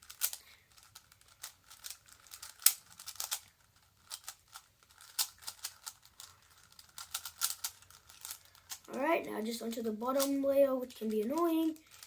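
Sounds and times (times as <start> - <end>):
puzzle layers clicking as turned: 0.0 - 8.9, 9.7 - 12.0.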